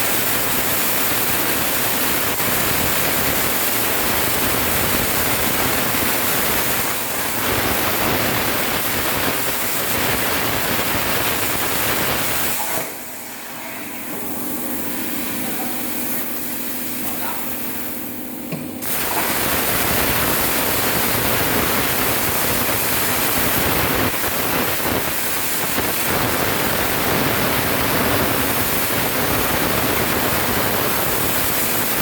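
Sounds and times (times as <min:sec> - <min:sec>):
plasma torch arc hissing: 0:00.0 - 0:13.2, 0:18.8 - 0:32.0.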